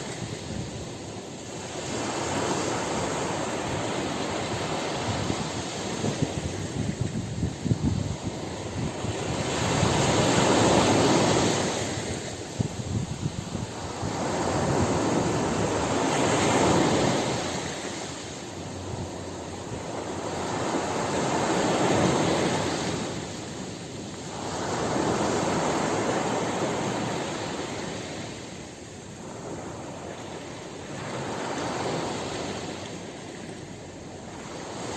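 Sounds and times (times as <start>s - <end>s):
ocean waves breaking: 0.0s - 34.9s.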